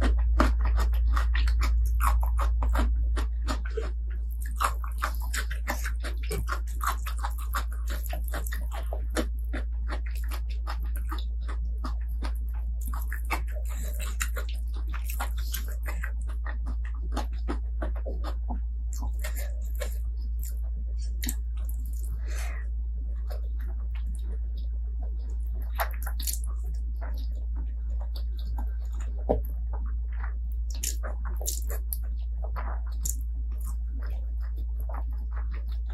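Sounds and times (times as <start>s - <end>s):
chewing with wet mouth clicks: 0.0s - 35.9s
steady low hum: 0.0s - 35.9s.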